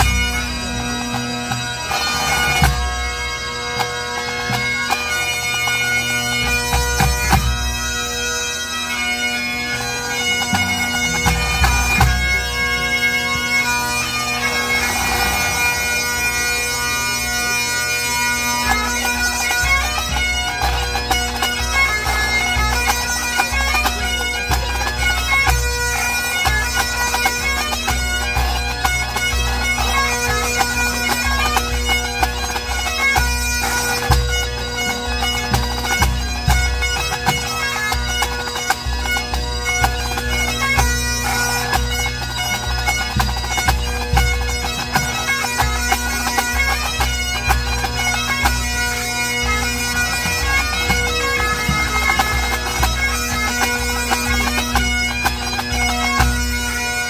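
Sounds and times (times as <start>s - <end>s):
bagpipes playing melody: 0.0s - 57.0s
pipe band drums beating: 0.0s - 57.0s.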